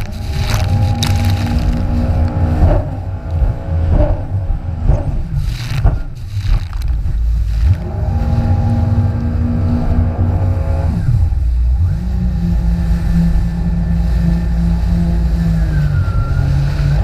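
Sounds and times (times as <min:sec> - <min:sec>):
jet ski engine running: 0:00.0 - 0:17.0.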